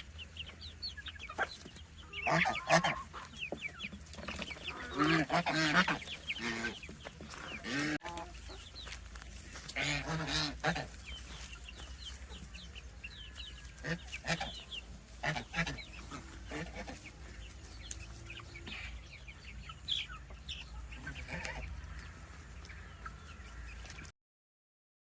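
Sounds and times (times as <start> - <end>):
roosters clucking: 0.0 - 24.1.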